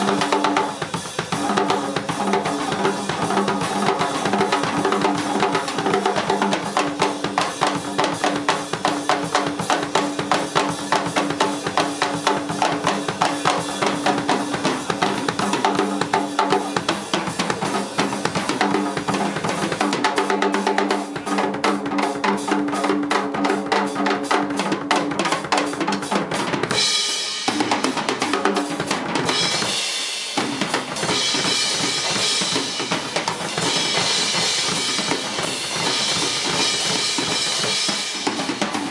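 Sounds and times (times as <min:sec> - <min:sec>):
drum kit solo: 0:00.0 - 0:38.9.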